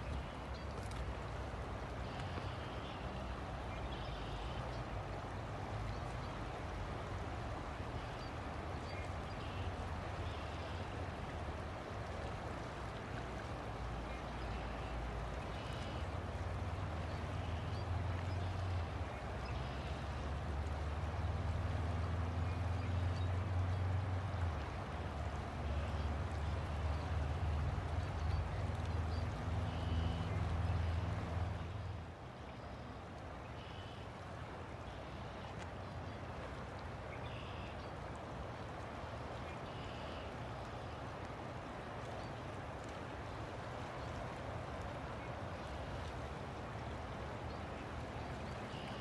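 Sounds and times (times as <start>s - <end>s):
river water flowing: 0.0s - 49.0s.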